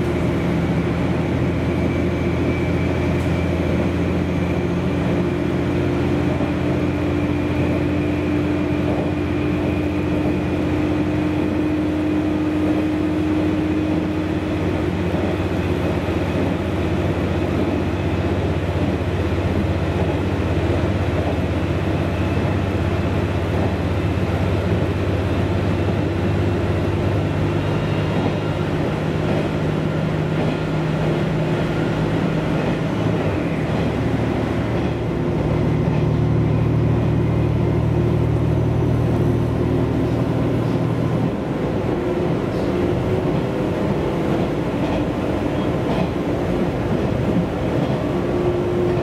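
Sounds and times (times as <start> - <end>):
diesel engine drone: 0.0 - 49.0
wheels rumbling on track: 0.0 - 49.0.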